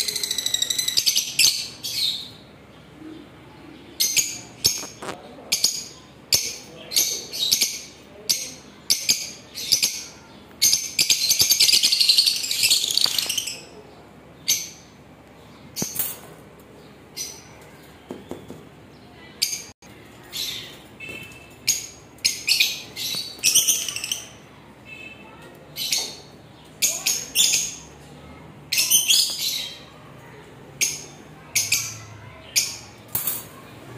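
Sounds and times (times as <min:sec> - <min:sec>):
lovebirds chirping and shrieking: 0:00.0 - 0:33.9.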